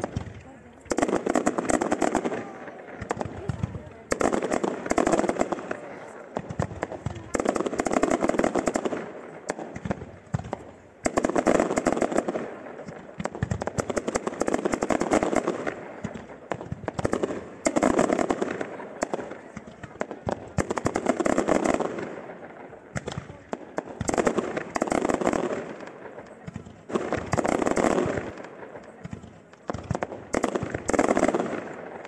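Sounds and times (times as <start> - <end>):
fireworks cracking and popping: 0.0 - 32.0.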